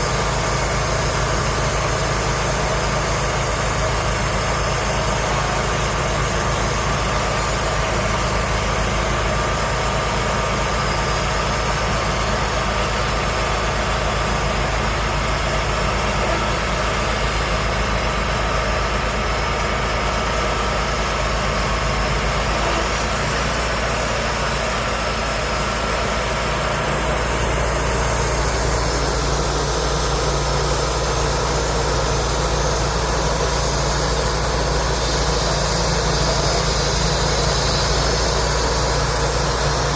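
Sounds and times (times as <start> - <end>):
bandsaw mill engine drone: 0.0 - 39.9.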